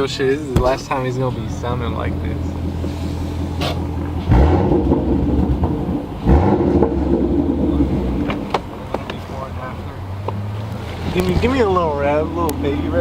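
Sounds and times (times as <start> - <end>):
car engine idling and revving: 0.7 - 13.0.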